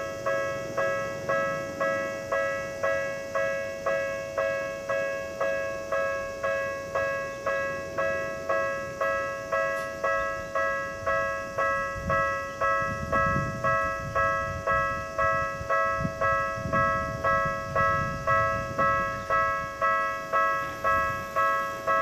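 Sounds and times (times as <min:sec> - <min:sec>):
level crossing alarm clanging: 0:00.0 - 0:22.0.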